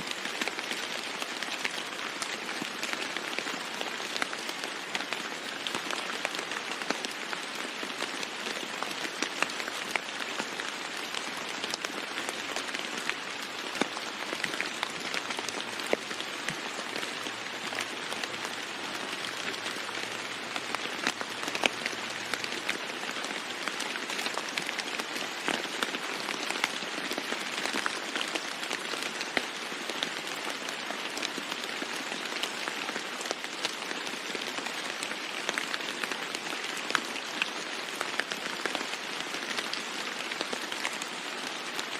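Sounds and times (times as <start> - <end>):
heavy rain on a roof: 0.0 - 41.9.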